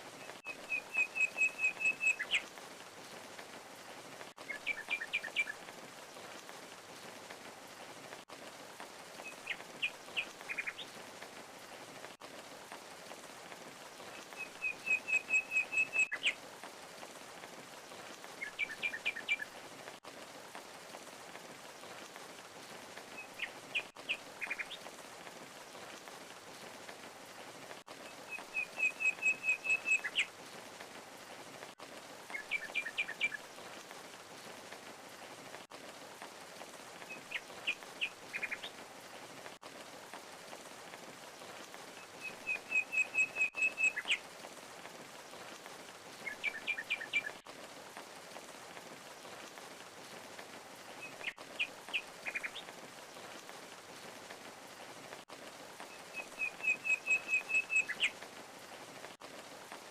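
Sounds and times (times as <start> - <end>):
falling water rushing: 0.0 - 59.9.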